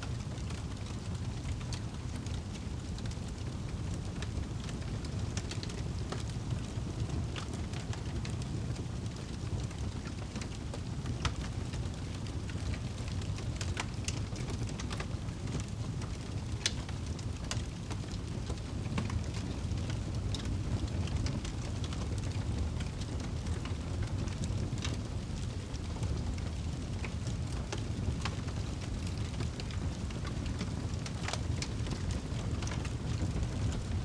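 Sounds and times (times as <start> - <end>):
fire crackling and popping: 0.0 - 34.0
fireplace fire rumbling: 0.0 - 34.0.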